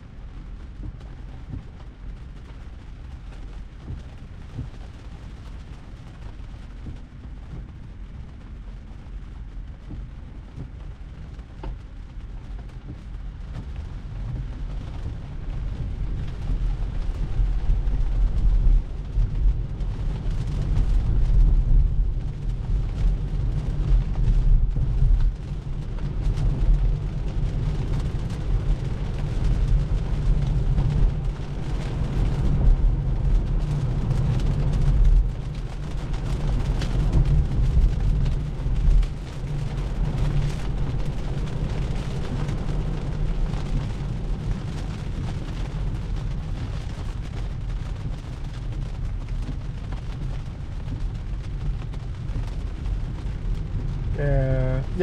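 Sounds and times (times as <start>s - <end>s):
tyre noise on wet road: 0.0s - 55.0s.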